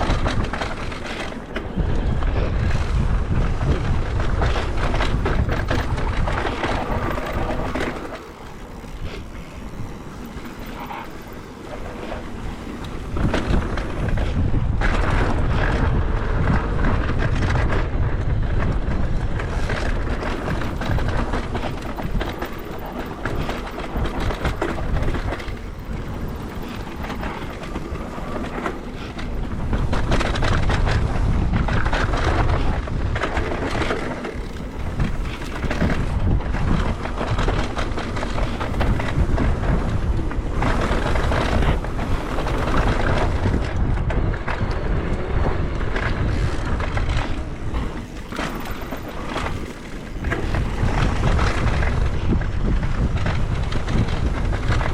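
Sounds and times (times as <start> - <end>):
tyres rolling on dirt trail: 0.0 - 54.9
wind rushing over microphone: 0.0 - 54.9.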